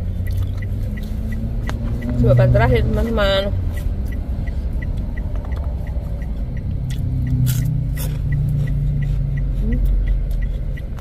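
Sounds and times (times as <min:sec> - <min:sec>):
car cabin rumble: 0:00.0 - 0:11.0
faint regular ticking: 0:00.0 - 0:11.0.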